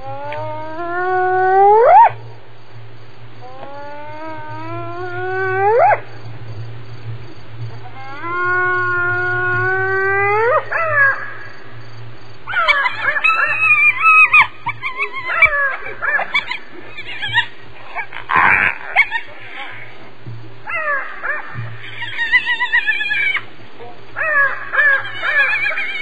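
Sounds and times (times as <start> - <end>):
hyena whooping: 0.0 - 2.2, 3.4 - 6.2, 7.8 - 11.6, 12.4 - 23.5, 24.2 - 26.0.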